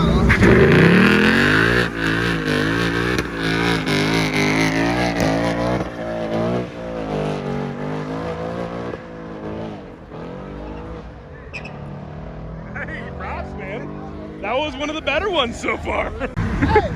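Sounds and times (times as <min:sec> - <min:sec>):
car engine revving hard: 0:00.0 - 0:16.9
spinning tyres hissing: 0:00.0 - 0:16.9.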